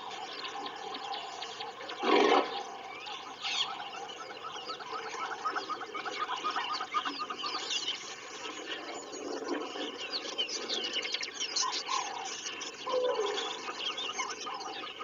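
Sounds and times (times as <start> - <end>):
birds chirping and twittering: 0.0 - 15.0
low long bird calls: 0.0 - 15.0.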